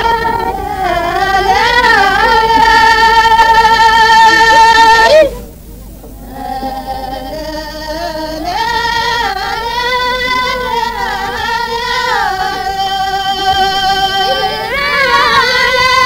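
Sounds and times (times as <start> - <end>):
voices chanting in held notes: 0.0 - 16.0.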